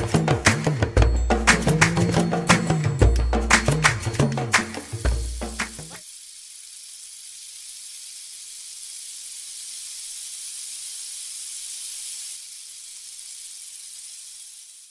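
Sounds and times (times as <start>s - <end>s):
high-pitched hiss: 0.0s - 14.9s.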